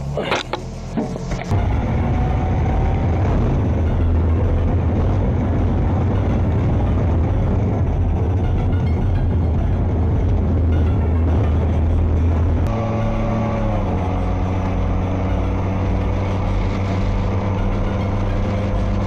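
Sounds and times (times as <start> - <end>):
armoured vehicle engine and tracks: 0.0 - 19.0.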